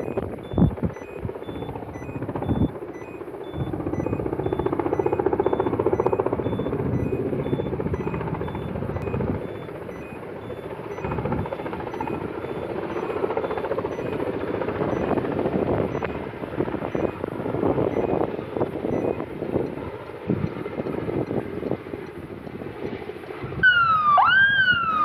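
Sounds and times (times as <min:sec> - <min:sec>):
helicopter rotor beating: 0:00.0 - 0:23.6.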